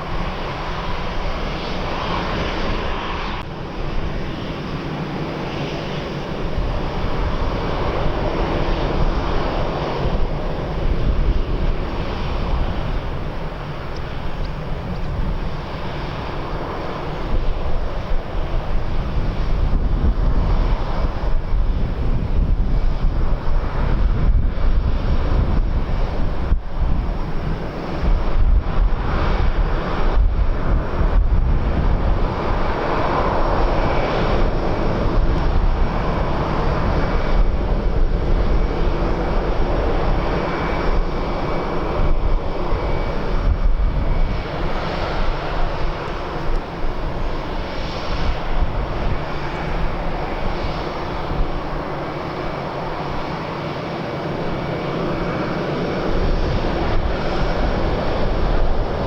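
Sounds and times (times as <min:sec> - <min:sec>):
airliner engines running: 0:00.0 - 0:59.0
wind buffeting microphone: 0:00.0 - 0:59.0.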